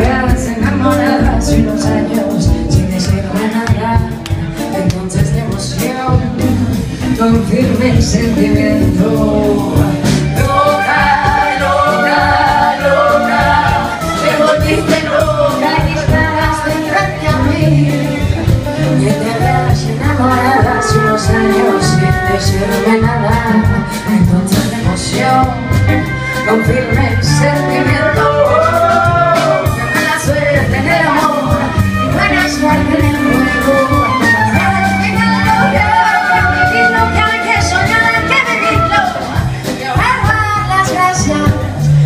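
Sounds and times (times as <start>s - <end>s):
drum kit: 0.0s - 42.0s
upright bass: 0.0s - 42.0s
violin: 0.0s - 42.0s
woman singing into microphone: 0.0s - 42.0s.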